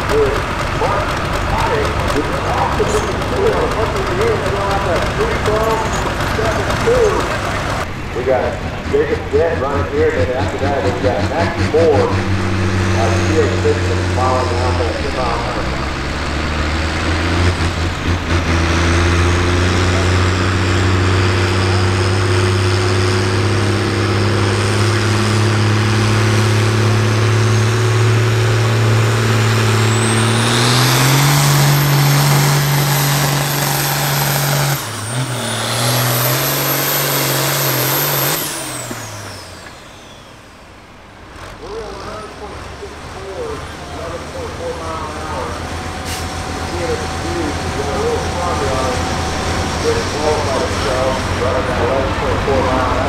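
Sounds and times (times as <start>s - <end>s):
diesel tractor engine under load: 0.0s - 53.0s.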